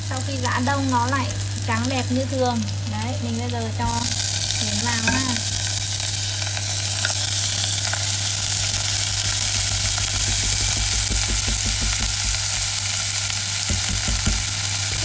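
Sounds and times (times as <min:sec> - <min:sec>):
food sizzling in hot fat: 0:00.0 - 0:15.0.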